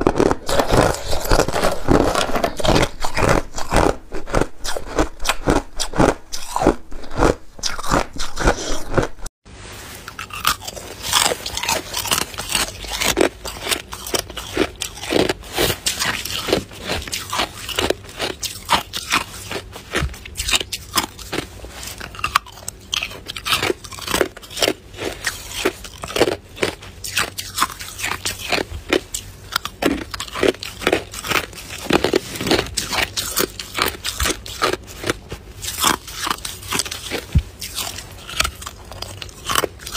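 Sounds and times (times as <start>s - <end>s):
ice being chewed: 0.0s - 9.3s, 9.9s - 39.9s.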